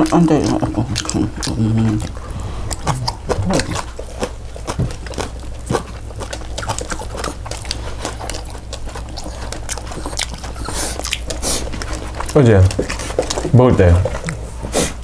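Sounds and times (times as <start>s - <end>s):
dog making small noises: 0.0s - 15.0s.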